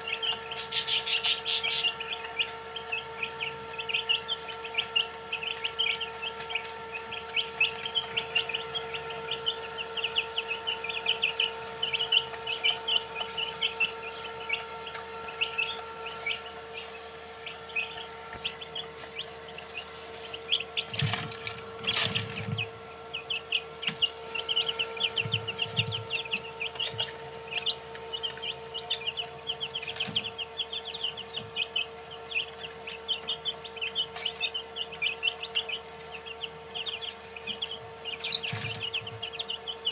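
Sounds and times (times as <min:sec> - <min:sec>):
chicks peeping: 0:00.0 - 0:39.9
steady hum: 0:00.0 - 0:39.9.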